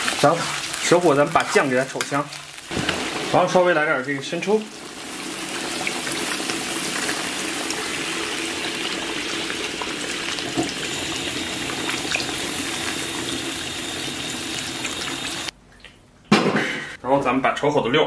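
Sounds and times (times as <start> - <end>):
food sizzling in a wok: 0.0 - 15.5.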